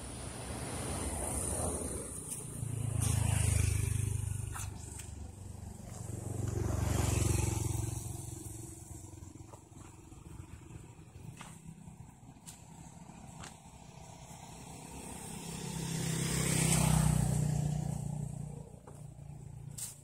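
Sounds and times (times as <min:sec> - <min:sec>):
outdoor background: 0:00.0 - 0:20.0
vehicles passing by: 0:00.0 - 0:20.0.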